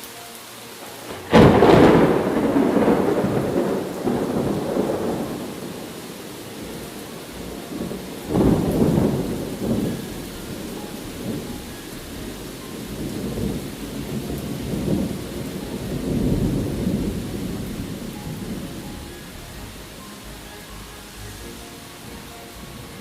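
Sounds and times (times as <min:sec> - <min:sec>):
steady rain: 0:00.0 - 0:23.0
rolling thunder: 0:01.0 - 0:20.0.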